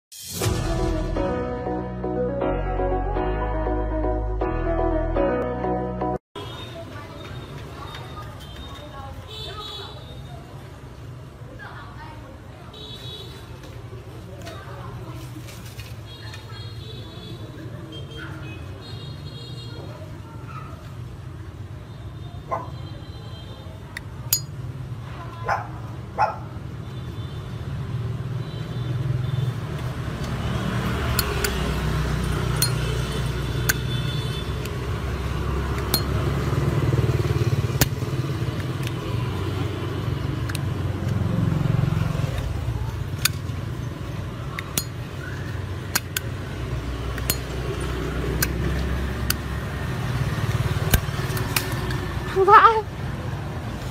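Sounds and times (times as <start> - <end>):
road traffic rumble: 6.4 - 53.9.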